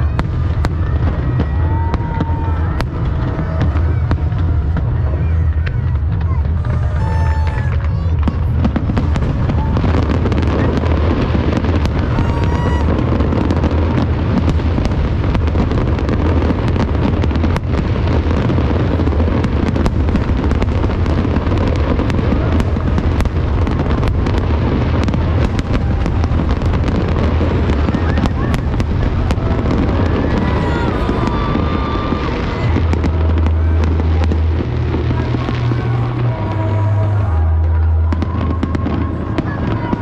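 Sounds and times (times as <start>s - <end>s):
fireworks booms and crackling bangs: 0.0s - 40.0s
heavy low rumble: 0.0s - 40.0s.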